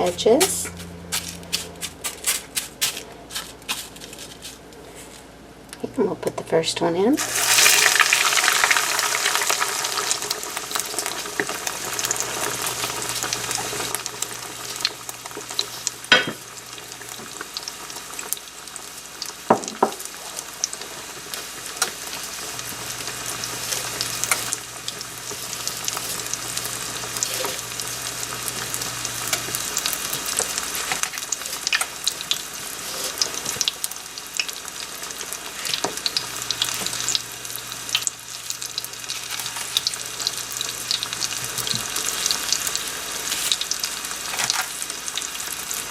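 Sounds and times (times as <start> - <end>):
chicken frying in hot oil: 7.2 - 45.9.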